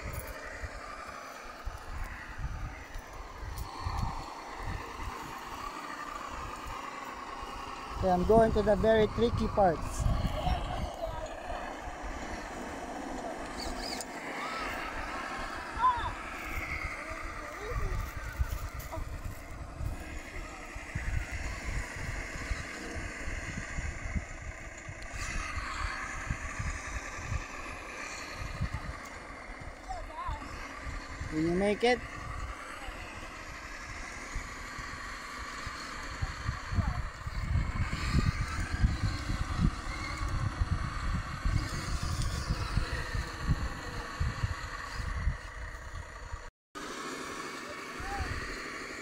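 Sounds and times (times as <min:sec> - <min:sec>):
wind rumble on microphone: 0:00.0 - 0:46.5
toy truck motor whining: 0:00.0 - 0:49.0.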